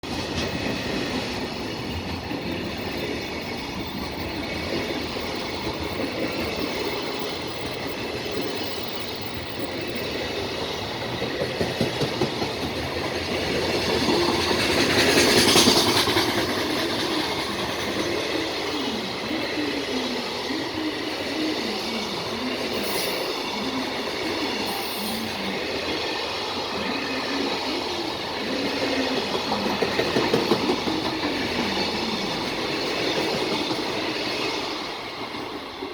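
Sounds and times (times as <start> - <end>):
freight train wheels clacking: 0.0 - 35.9.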